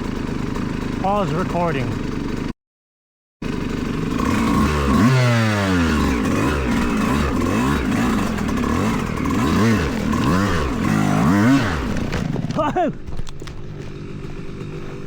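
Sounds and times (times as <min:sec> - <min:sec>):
dirt bike engine revving: 0:00.0 - 0:02.6, 0:03.4 - 0:15.0.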